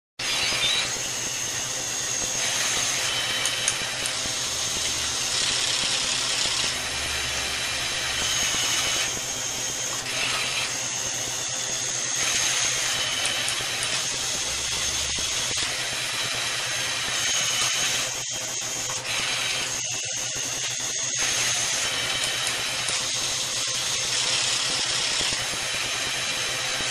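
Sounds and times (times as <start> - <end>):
thin high whine: 0.2 - 23.6
plastic gears and motors whirring: 0.2 - 26.9.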